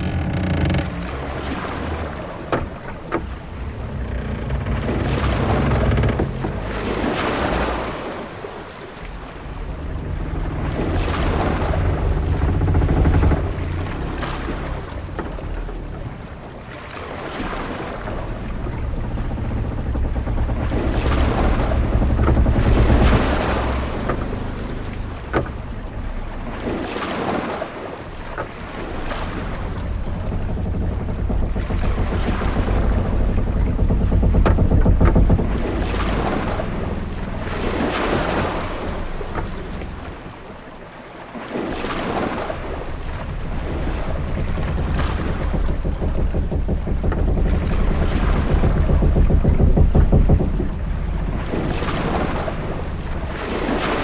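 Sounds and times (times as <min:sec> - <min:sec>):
short knocks: 0:00.0 - 0:08.3, 0:08.9 - 0:40.5, 0:41.7 - 0:54.0
deep rumble: 0:00.0 - 0:40.9, 0:41.6 - 0:54.0
waves washing against hull: 0:00.0 - 0:54.0
wind: 0:00.0 - 0:54.0.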